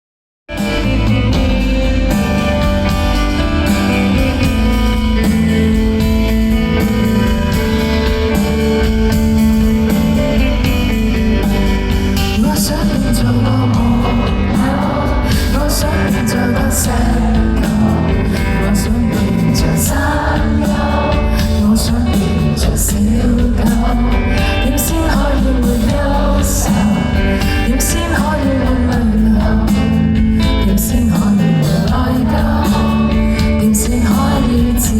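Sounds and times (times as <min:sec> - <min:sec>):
live band playing pop: 0:00.5 - 0:34.9
person singing: 0:00.6 - 0:34.9.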